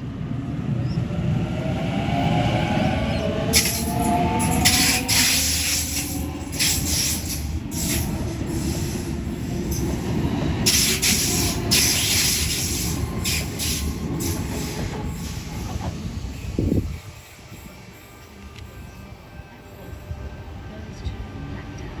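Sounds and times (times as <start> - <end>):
train rumbling: 0.0 - 22.0
wheels screeching on rails: 0.8 - 22.0.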